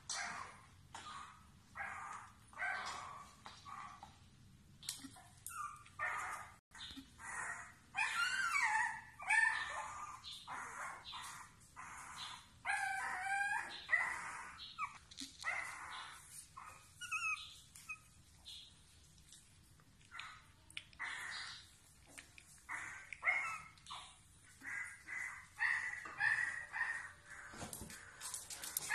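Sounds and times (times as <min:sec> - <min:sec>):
puppies whining and yelping: 0:00.0 - 0:04.2, 0:04.9 - 0:28.9.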